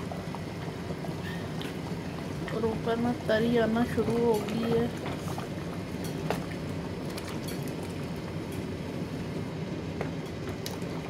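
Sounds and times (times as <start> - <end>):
curry simmering rumble: 0.0 - 11.0.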